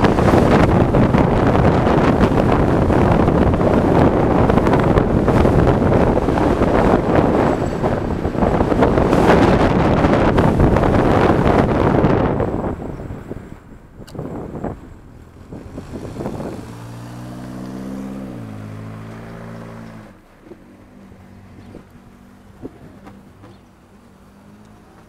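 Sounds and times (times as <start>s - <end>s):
wind buffeting microphone: 0.0s - 23.7s.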